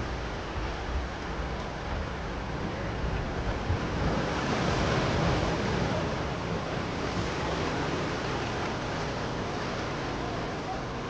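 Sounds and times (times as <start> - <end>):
ocean surf washing against rocks: 0.0 - 11.0.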